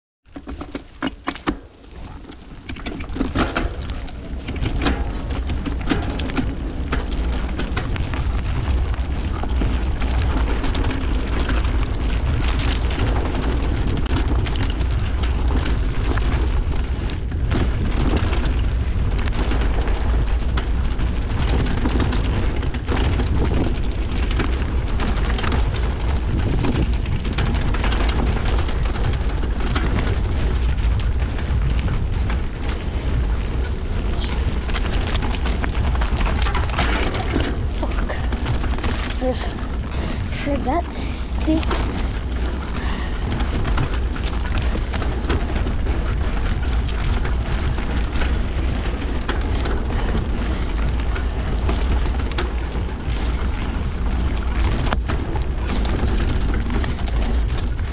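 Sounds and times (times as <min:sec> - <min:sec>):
bike rattles and knocks: 0:00.2 - 0:57.9
wind rumbling on microphone: 0:00.2 - 0:57.9
bike tyre noise: 0:00.3 - 0:57.9.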